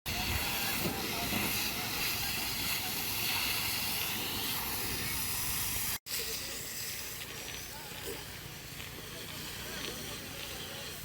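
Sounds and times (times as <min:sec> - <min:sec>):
faint voices: 0:00.1 - 0:11.0
fire hose spraying water: 0:00.1 - 0:11.0.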